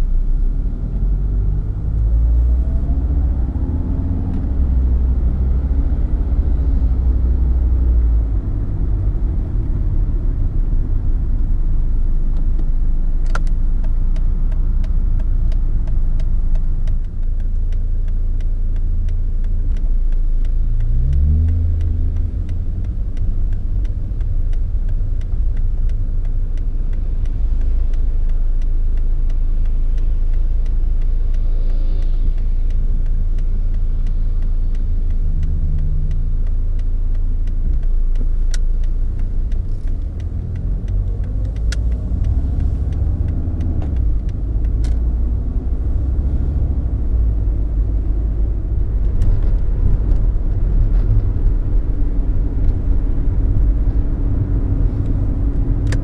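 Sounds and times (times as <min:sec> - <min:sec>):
diesel engine rumble in car: 0:00.0 - 0:56.0.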